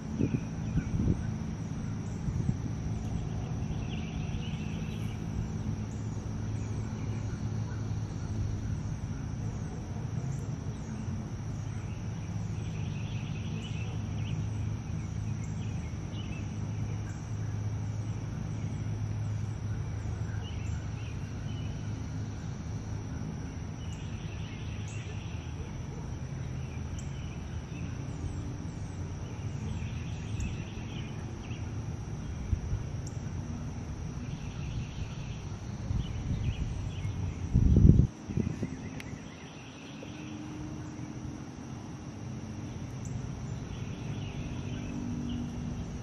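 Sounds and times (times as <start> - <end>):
steady low rumble: 0.0 - 46.0
thin steady high tone: 0.0 - 46.0.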